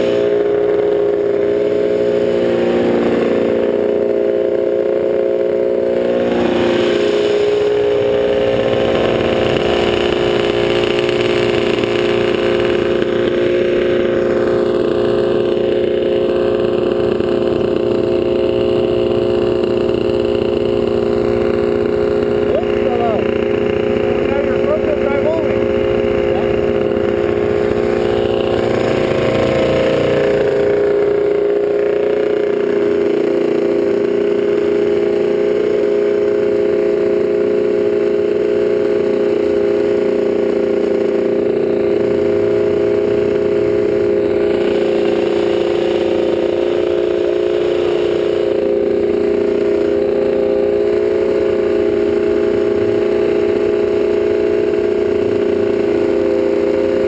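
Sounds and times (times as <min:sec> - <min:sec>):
quad bike engine idling: 0:00.0 - 0:57.0.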